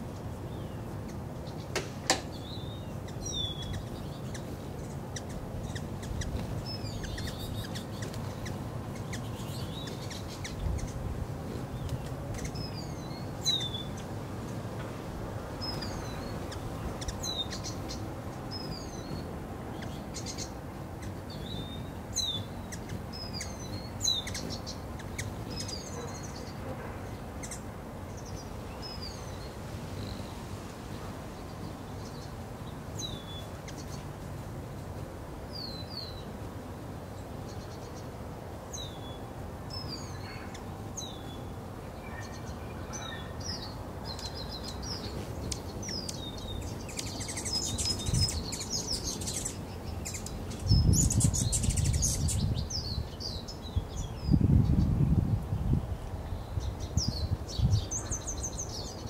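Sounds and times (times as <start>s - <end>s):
hummingbirds chirping: 0.0s - 59.0s
outdoor background noise: 0.0s - 59.0s.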